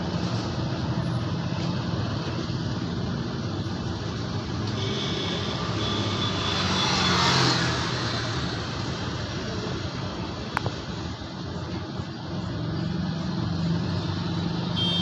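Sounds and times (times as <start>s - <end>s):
traffic engine hum: 0.0s - 15.0s.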